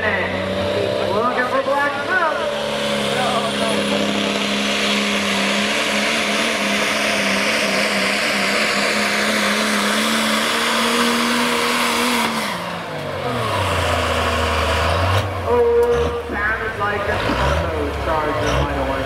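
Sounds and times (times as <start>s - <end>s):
diesel truck engine at full throttle: 0.0s - 19.0s.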